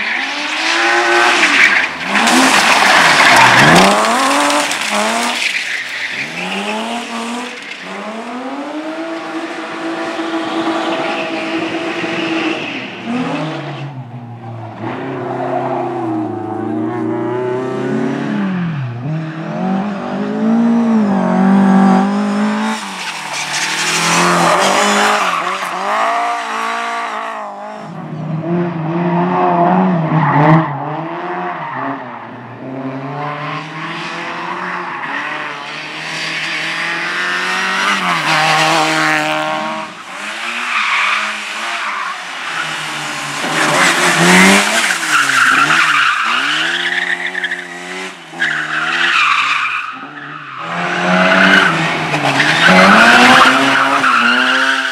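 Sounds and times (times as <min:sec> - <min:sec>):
race car engine revving: 0:00.1 - 0:27.8, 0:35.2 - 0:54.9.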